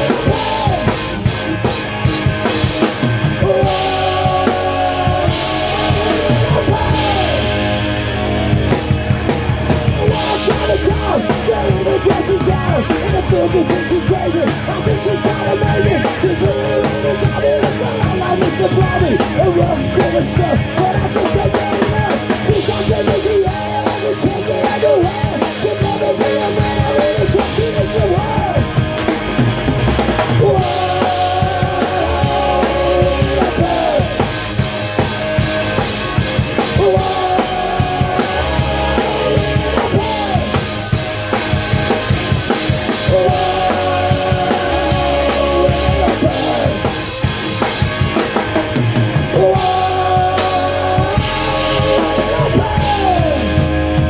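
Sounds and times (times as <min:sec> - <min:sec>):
bass guitar: 0:00.0 - 0:54.0
drum kit steady beat: 0:00.0 - 0:54.0
electric guitars: 0:00.0 - 0:54.0.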